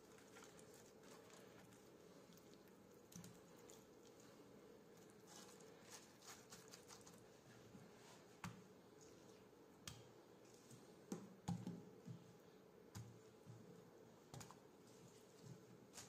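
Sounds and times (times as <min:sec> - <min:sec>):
soft rustles of food handling: 0:00.0 - 0:16.0.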